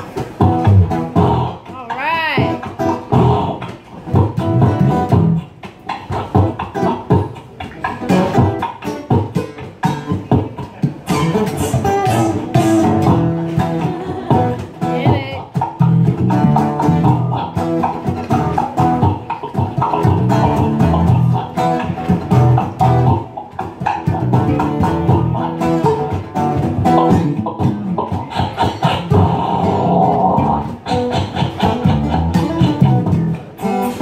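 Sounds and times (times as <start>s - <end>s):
bass guitar groove: 0.0s - 34.0s
beatboxing into microphone: 0.0s - 34.0s.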